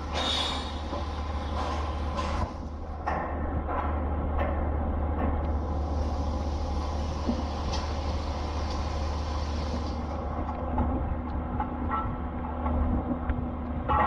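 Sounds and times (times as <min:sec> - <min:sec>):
wind buffeting microphone: 0:01.9 - 0:14.0.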